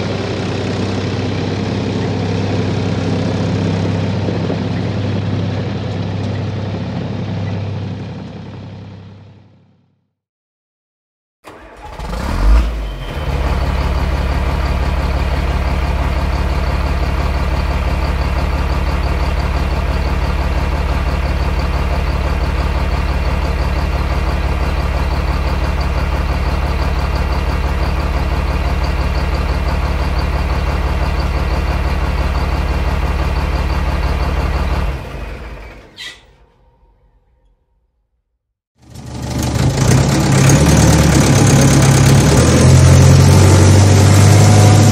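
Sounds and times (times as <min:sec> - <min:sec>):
heavy engine droning: 0:00.0 - 0:10.0, 0:11.5 - 0:37.8, 0:38.8 - 0:44.9.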